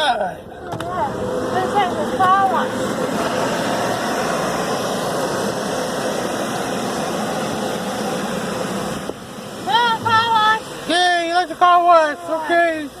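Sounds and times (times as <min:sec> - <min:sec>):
car wash equipment rushing: 0:00.0 - 0:13.0.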